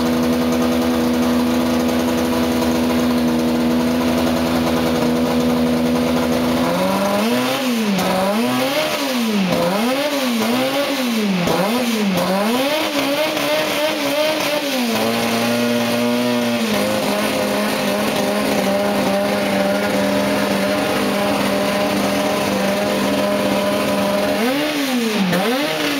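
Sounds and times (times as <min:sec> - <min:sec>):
racing car engine idling: 0:00.0 - 0:25.9
racing car engine revving: 0:00.0 - 0:25.9.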